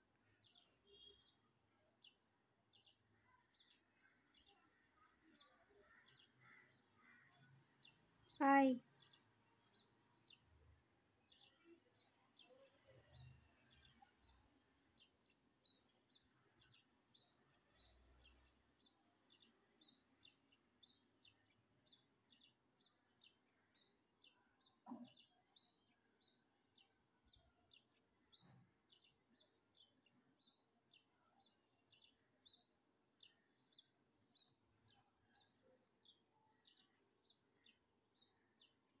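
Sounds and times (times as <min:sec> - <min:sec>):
small bird chirping: 0:00.2 - 0:10.4, 0:15.0 - 0:39.0.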